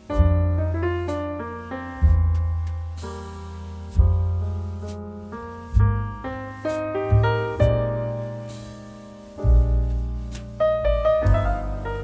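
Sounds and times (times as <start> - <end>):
slow classical piano: 0.0 - 12.0.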